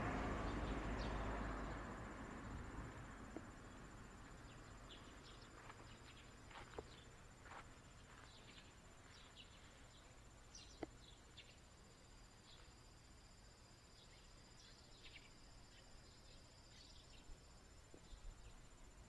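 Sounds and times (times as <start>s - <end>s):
faint insects chirping: 0.0s - 19.0s.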